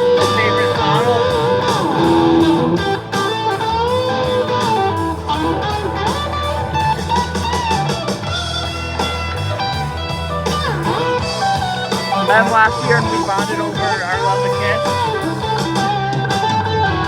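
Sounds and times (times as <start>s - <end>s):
electric guitar with bending lines: 0.0s - 17.0s.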